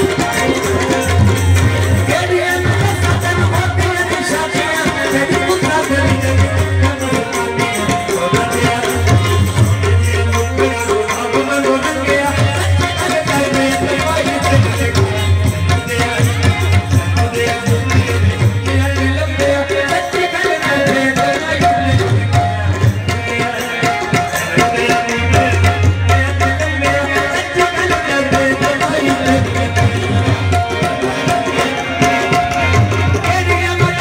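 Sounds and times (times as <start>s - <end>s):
harmonium held notes: 0.0s - 34.0s.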